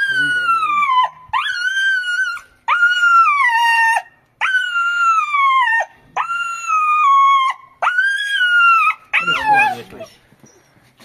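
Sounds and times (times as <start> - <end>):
puppy yelping in pain: 0.0 - 10.2.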